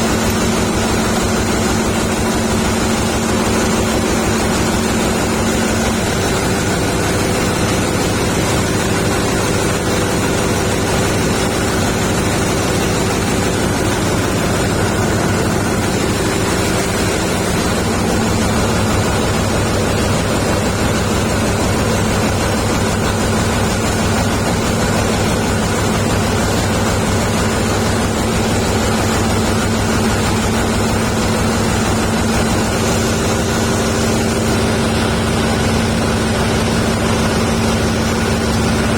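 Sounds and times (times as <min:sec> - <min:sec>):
generator engine droning: 0:00.0 - 0:38.9.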